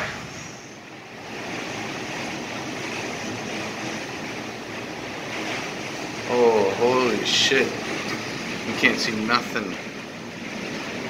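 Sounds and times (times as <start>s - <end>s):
rain lashing the house: 0.0s - 11.0s
storm wind: 0.0s - 11.0s.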